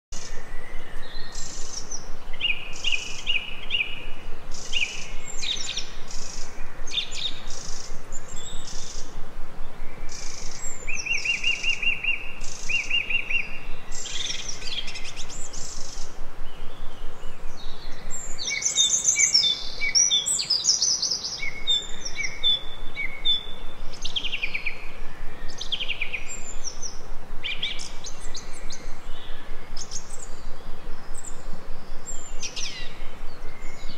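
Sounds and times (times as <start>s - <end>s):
songbirds chirping and trilling: 0.1s - 33.9s
steady background hiss: 0.1s - 33.9s.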